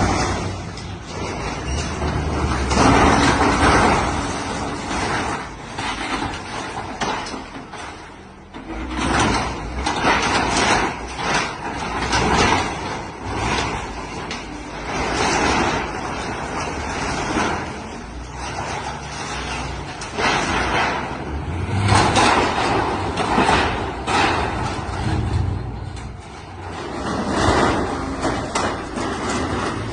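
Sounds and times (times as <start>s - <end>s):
diesel engine rumbling: 0.0s - 29.9s
metal and debris scraping crashing: 0.0s - 29.9s.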